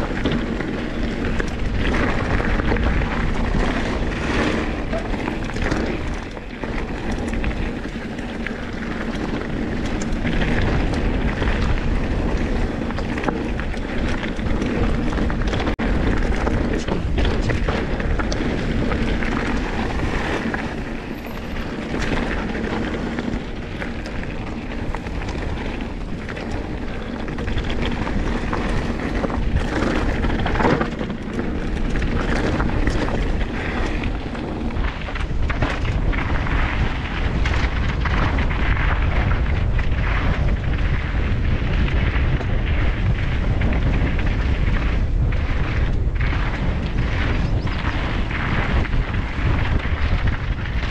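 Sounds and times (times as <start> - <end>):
bike chain and frame clattering: 0.0 - 50.9
bike tyres rumbling on gravel: 0.0 - 50.9
wind buffeting microphone: 0.0 - 50.9.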